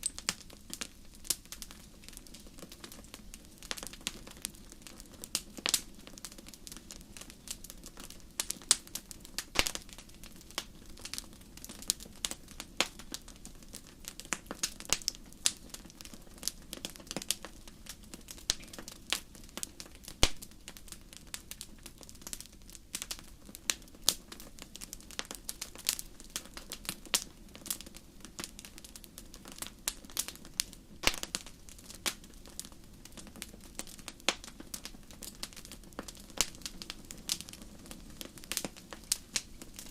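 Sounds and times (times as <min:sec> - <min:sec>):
burning logs hissing: 0:00.0 - 0:39.9
wood fire crackling: 0:00.0 - 0:39.9.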